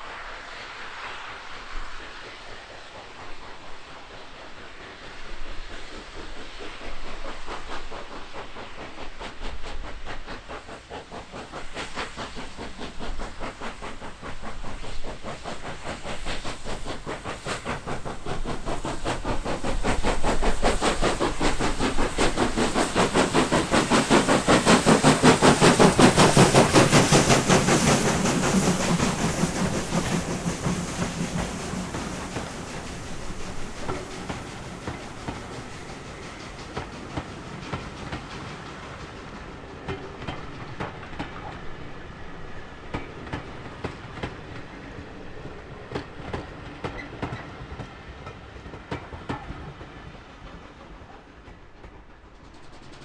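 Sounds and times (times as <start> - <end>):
steam locomotive exhaust beat: 0.0 - 53.0.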